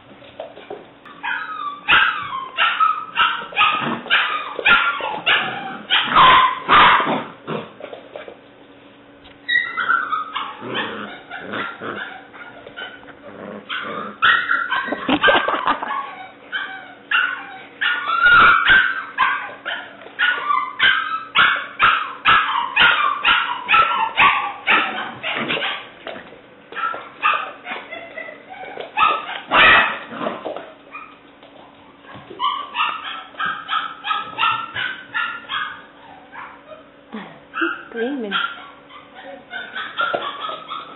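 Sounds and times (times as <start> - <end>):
puppy barking and yipping: 1.1 - 7.3, 9.4 - 26.0, 26.7 - 30.2, 30.9 - 31.2, 32.0 - 36.9, 37.5 - 40.9.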